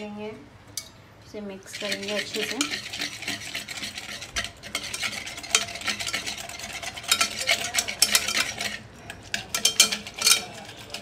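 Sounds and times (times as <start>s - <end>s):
batter stirred in metal bowl: 1.6s - 11.0s.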